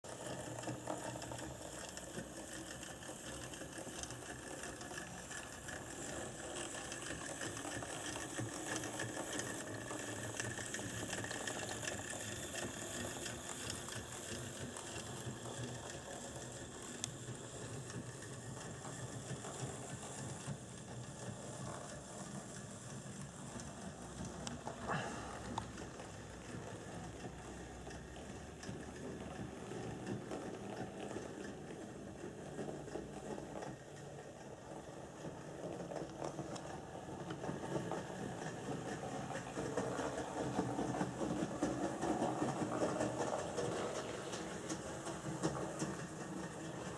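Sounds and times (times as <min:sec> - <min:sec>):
fast clicking of wheels: 0:00.1 - 0:46.9
model train motor whir: 0:00.1 - 0:46.9.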